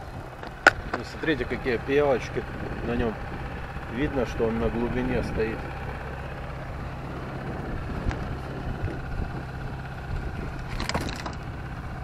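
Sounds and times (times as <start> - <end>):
boat engine idling: 0.0 - 12.0
wind and water hum: 0.0 - 12.0.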